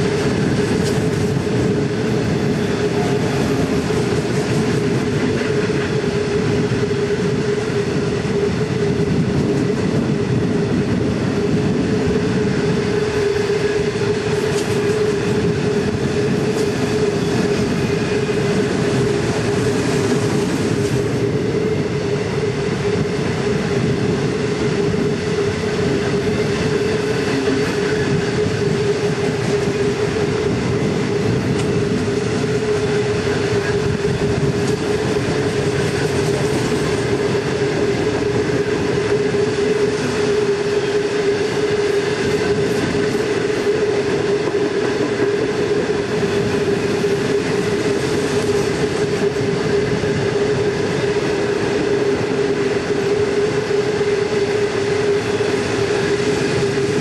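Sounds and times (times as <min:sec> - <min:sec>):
steady whining tone: 0:00.0 - 0:57.0
wheels rumbling on rail: 0:00.0 - 0:57.0.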